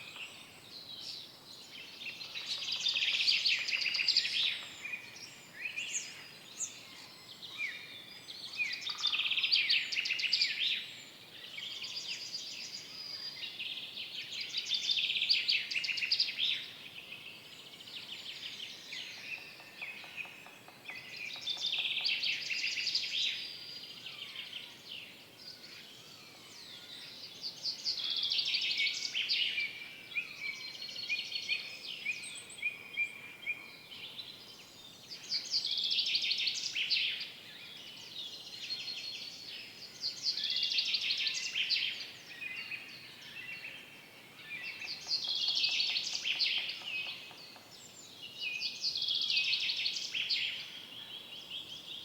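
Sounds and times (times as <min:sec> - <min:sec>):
faint background hiss: 0:00.0 - 0:52.0
songbirds trilling and chirping: 0:00.0 - 0:52.0.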